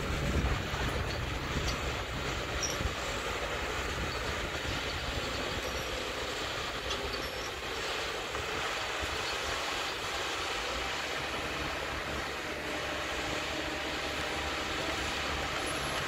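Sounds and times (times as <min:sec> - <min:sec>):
skidder engine rumble: 0:00.0 - 0:16.0.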